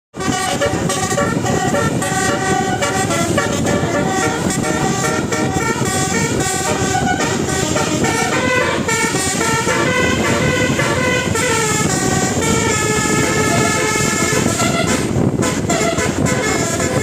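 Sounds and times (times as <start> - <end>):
multi-trumpet air horn tune: 0.1 - 17.0
steady low rumble: 0.2 - 17.0.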